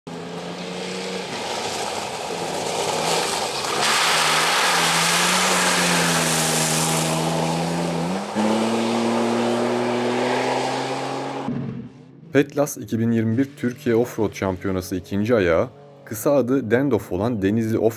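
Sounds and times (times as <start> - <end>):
off-road engines revving: 0.1 - 17.4.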